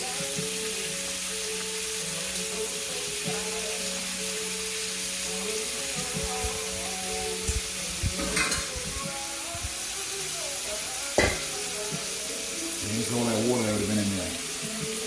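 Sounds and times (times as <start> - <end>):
background music: 0.0 - 15.0
chicken frying in oil: 0.0 - 15.0.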